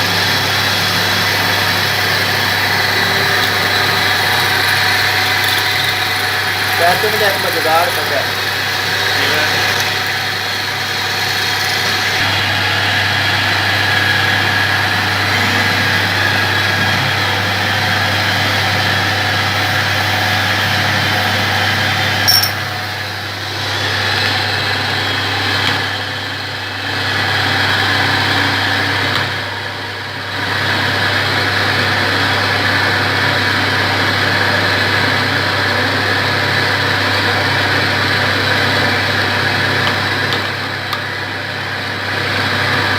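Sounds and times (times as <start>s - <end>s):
lathe running: 0.0s - 42.9s.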